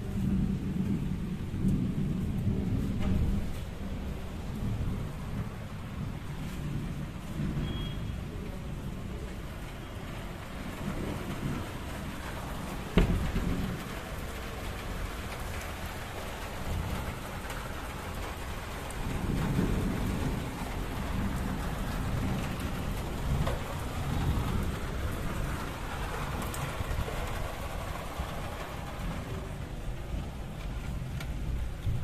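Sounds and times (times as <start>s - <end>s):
heavy rain splashing: 0.0s - 32.0s.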